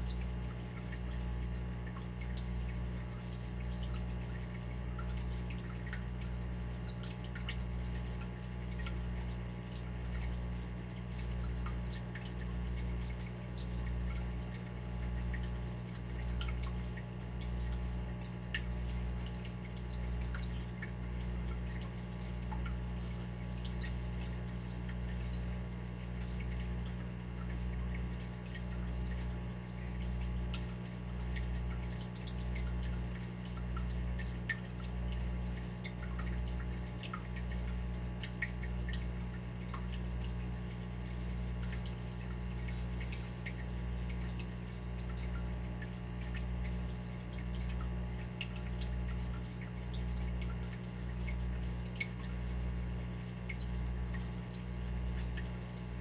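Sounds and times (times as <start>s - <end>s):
water dripping and trickling: 0.0s - 56.0s.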